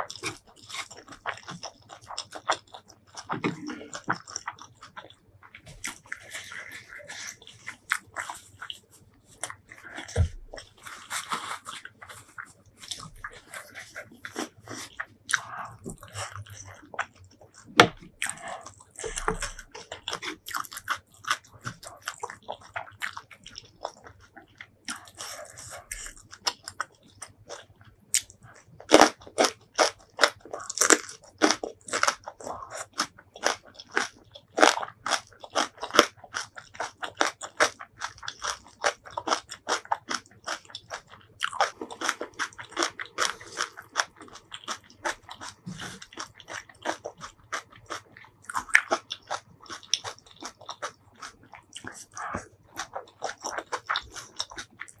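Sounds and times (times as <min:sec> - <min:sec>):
wet chewing: 0:00.0 - 0:55.0.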